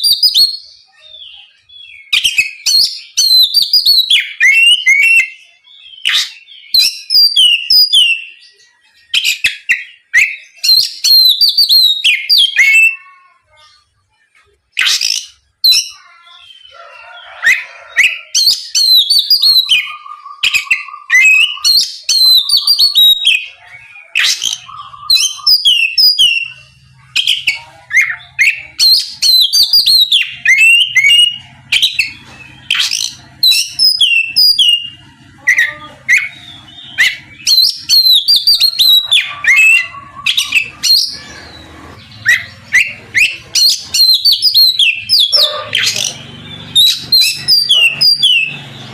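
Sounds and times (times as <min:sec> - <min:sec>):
bird singing: 0:00.0 - 0:48.9.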